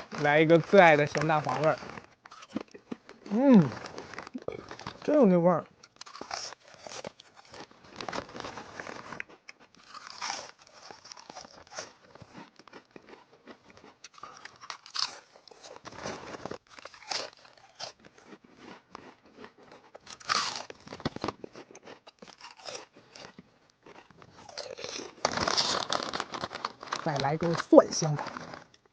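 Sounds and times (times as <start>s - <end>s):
crunching potato chips: 0.0s - 28.9s.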